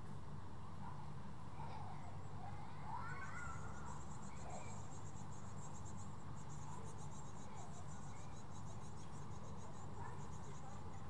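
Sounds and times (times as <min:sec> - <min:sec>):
insects chirping: 0:01.8 - 0:11.0.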